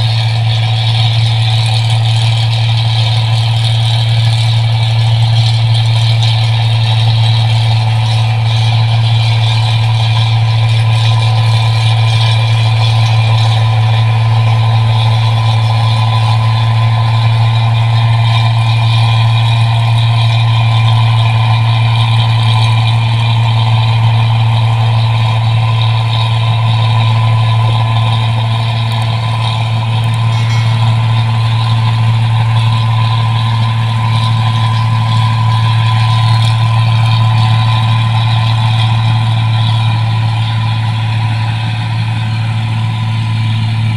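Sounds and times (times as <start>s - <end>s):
combine harvester drone: 0.0s - 43.9s.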